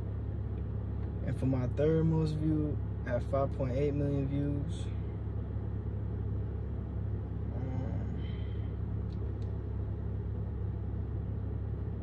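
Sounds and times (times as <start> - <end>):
stationary car rumble: 0.0 - 12.0.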